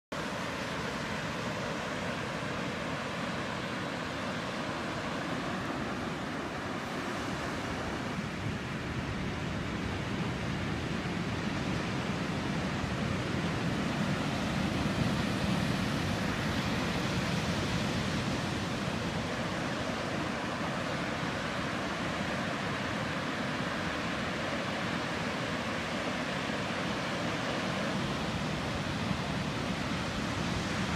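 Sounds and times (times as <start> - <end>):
waves breaking on a beach: 0.2 - 30.9.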